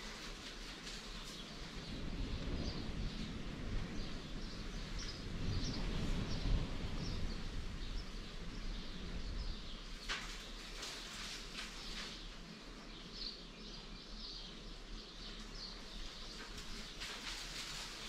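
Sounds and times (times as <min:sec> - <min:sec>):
birds chirping: 0:00.0 - 0:18.0
low background noise: 0:00.0 - 0:18.0.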